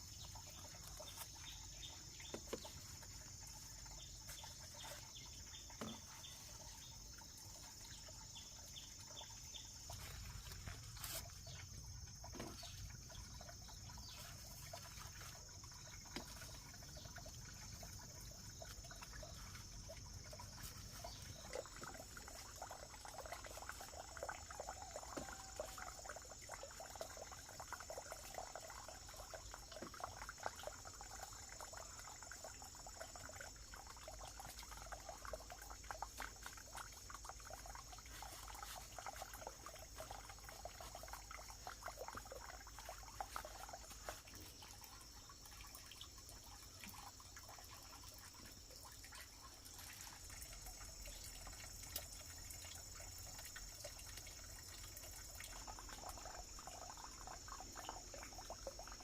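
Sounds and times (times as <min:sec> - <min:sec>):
crackly trickling or rustling: 0:00.0 - 0:59.0.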